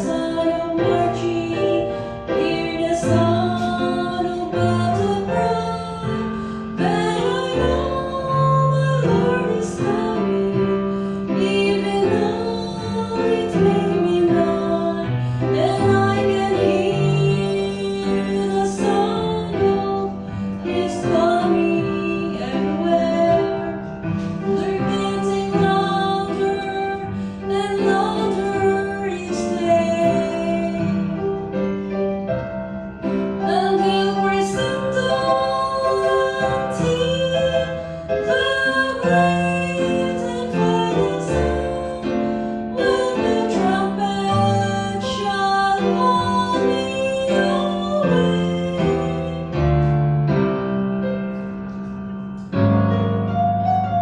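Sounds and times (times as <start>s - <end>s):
woman singing: 0.0s - 31.4s, 33.4s - 49.7s
piano accompaniment: 0.0s - 54.0s.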